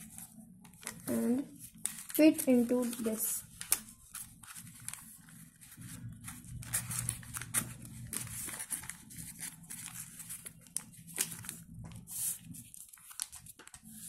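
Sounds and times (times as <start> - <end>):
low steady hum: 0.0 - 13.9
paper rustling and crinkling: 0.0 - 14.0.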